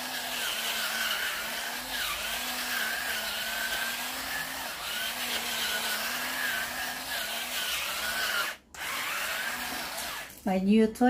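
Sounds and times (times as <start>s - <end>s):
pepper grinder motor whirring: 0.0s - 10.5s.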